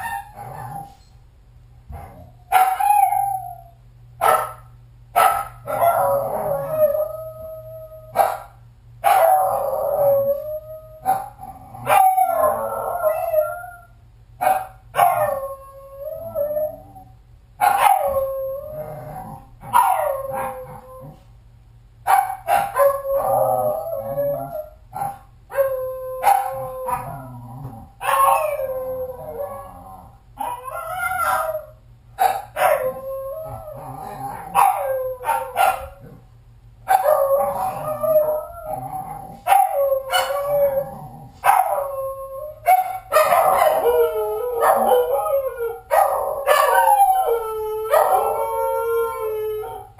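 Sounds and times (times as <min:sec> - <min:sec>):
dog howling and barking: 0:02.0 - 0:04.5, 0:05.2 - 0:21.2, 0:22.1 - 0:36.2, 0:36.9 - 0:49.9.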